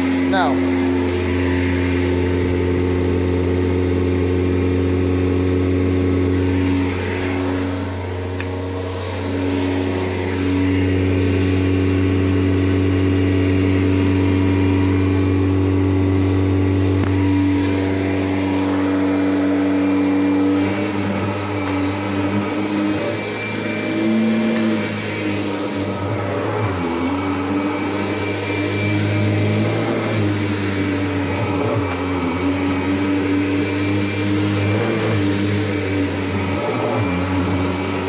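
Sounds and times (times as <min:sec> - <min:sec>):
vacuum cleaner on carpet: 0:00.0 - 0:38.0.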